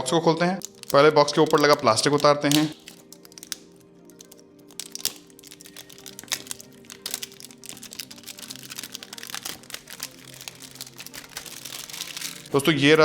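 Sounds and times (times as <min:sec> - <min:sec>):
background music: 0:00.0 - 0:13.0
plastic wrap crinkling: 0:00.6 - 0:13.0.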